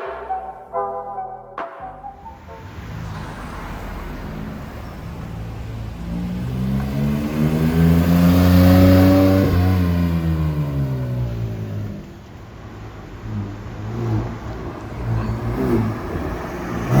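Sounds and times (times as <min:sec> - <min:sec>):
car accelerating past: 0:02.2 - 0:12.1, 0:13.0 - 0:17.0.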